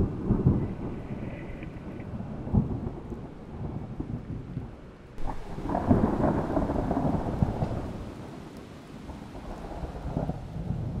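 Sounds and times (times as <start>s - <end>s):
steady rain: 0.0s - 11.0s
thunder rolling: 0.0s - 11.0s.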